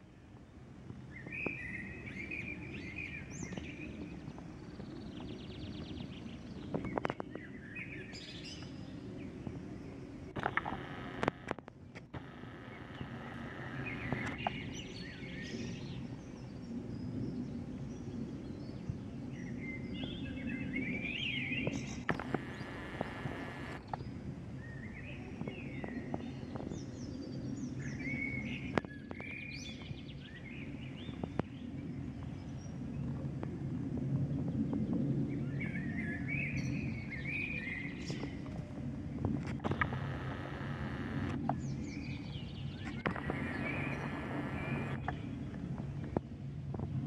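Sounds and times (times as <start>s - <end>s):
songbirds chirping: 0.0s - 33.1s, 34.3s - 46.8s.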